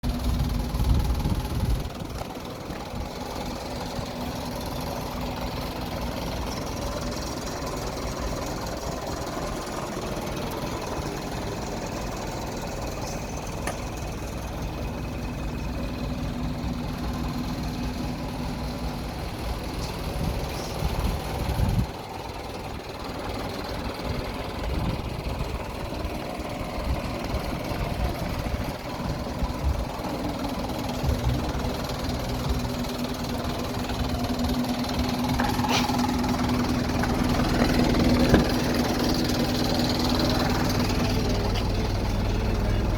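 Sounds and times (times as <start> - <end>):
truck engine idling: 0.0 - 42.9.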